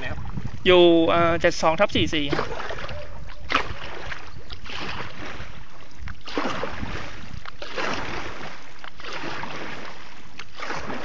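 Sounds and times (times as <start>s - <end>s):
water swishing in surges: 0.0s - 11.0s.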